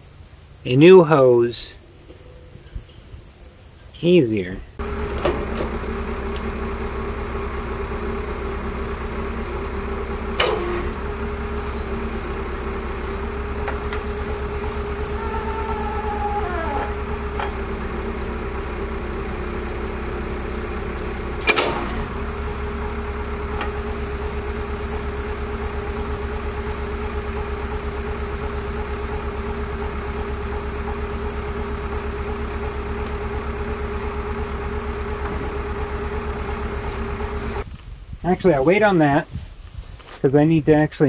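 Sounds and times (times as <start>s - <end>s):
high insect buzz: 0.0s - 40.2s
diesel engine idling: 4.7s - 37.7s.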